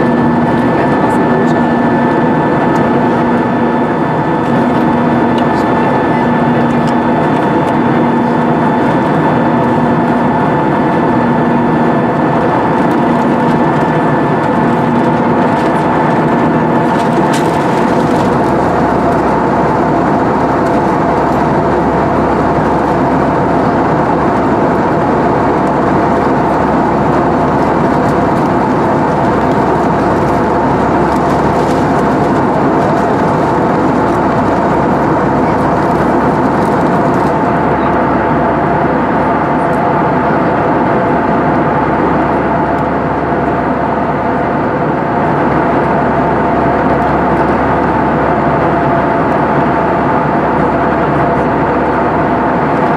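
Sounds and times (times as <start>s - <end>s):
deep rumble: 0.0s - 52.9s
jet engine drone in cabin: 0.0s - 52.9s.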